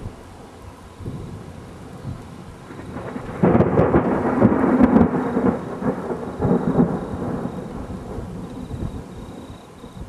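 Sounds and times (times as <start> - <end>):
thunder clap and rumble: 1.0 - 10.0.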